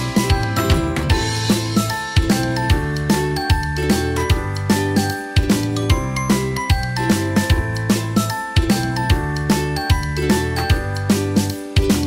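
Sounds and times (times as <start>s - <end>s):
upbeat music with chiming bells: 0.0s - 12.0s.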